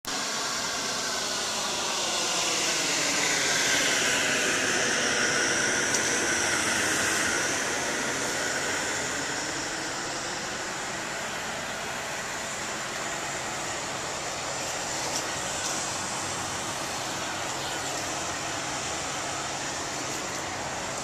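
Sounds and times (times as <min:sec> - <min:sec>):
machinery drone: 0:00.1 - 0:21.0.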